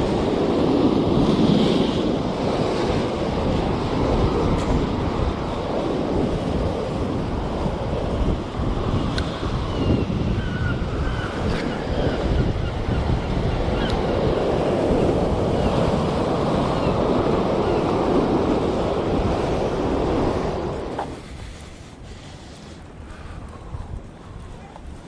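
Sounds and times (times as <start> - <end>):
surf washing over rocks: 0.0 - 22.4
wind buffeting microphone: 0.0 - 25.0.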